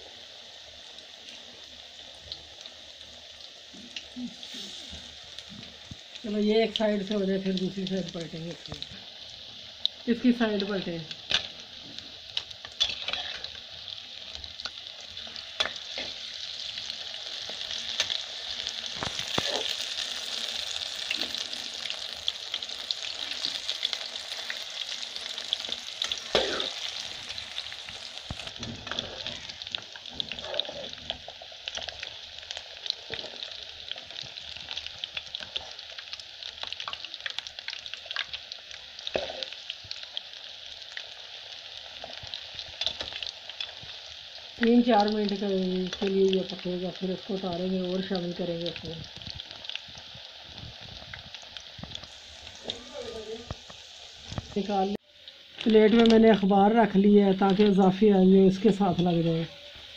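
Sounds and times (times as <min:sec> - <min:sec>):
food deep-frying in hot oil: 0:00.0 - 0:59.9.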